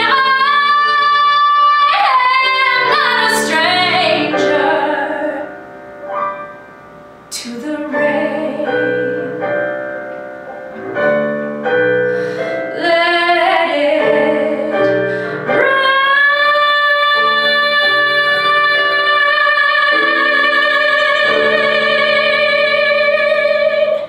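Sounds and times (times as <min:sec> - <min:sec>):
woman singing a ballad: 0:00.0 - 0:05.6, 0:07.3 - 0:09.7, 0:12.4 - 0:24.0
piano accompaniment: 0:00.0 - 0:24.0.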